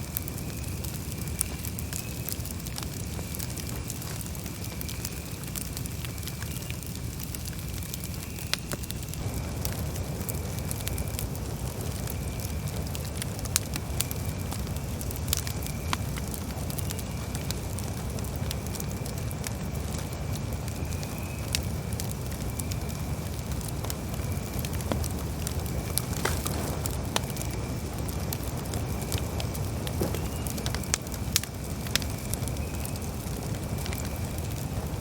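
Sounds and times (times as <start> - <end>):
burning wood crackling and popping: 0.0 - 35.0
campfire flames rushing: 0.0 - 35.0.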